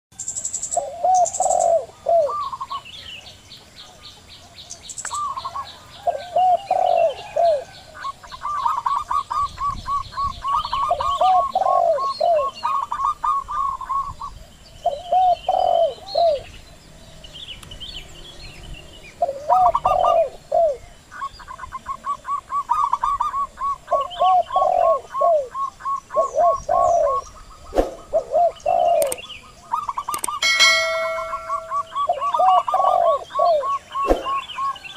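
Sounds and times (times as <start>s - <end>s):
small birds chirping: 0.2s - 34.9s
doves cooing: 0.8s - 2.8s, 5.1s - 16.5s, 19.2s - 20.8s, 21.5s - 34.9s.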